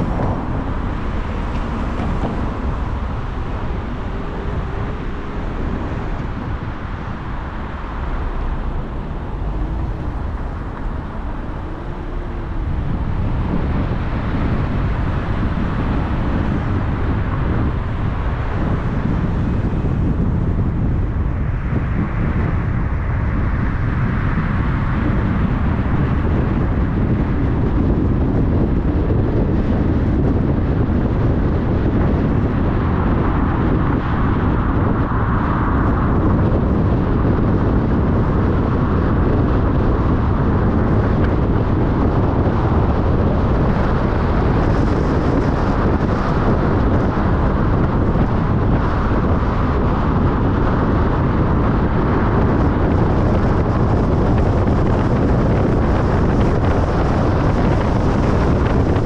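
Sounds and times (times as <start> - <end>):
car road noise: 0.0 - 59.0.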